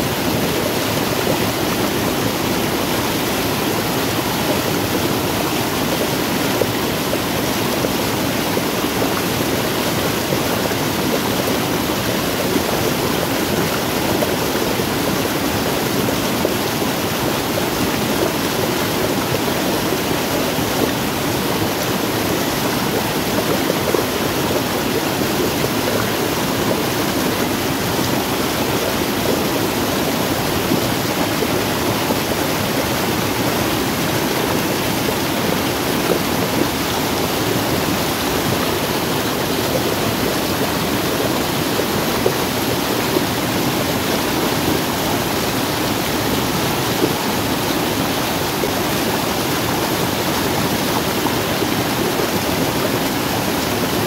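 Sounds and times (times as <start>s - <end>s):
water rushing down a cascade: 0.0s - 54.0s.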